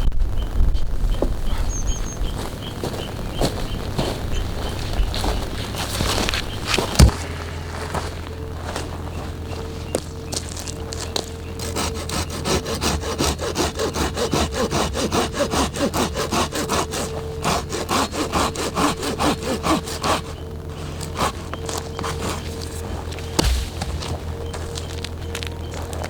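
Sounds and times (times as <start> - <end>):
hand saw cutting wood: 4.6 - 26.0.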